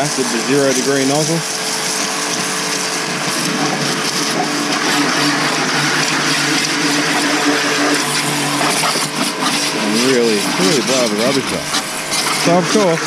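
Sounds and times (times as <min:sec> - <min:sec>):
pressure washer pump humming: 0:00.0 - 0:13.0
pressure washer water jet hissing: 0:00.0 - 0:13.0.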